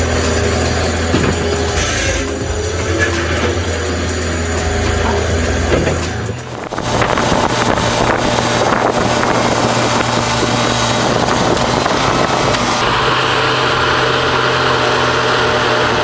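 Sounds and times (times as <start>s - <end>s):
loud mechanical working noise: 0.0s - 16.0s
machinery engine hum: 0.0s - 16.0s.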